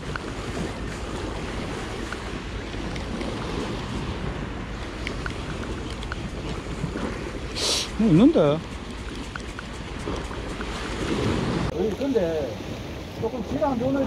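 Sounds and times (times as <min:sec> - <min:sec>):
waves breaking on rocky shore: 0:00.0 - 0:14.0
wind buffeting microphone: 0:00.0 - 0:14.0.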